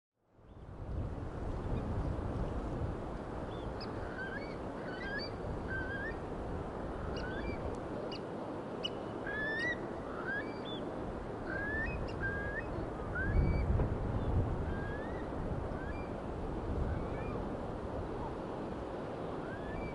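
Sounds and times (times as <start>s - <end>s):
wind: 0.2s - 19.9s
seaside birds calling: 3.4s - 19.9s.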